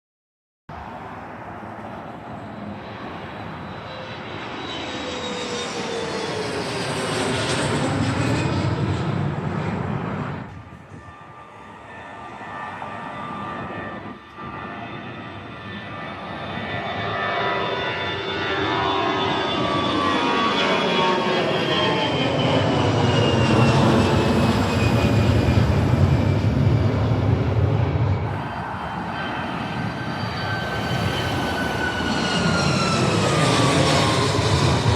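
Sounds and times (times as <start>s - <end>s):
airliner passing overhead: 0.7s - 34.9s
jet engines rumbling: 0.7s - 34.9s
high jet whine falling in pitch: 1.8s - 34.9s.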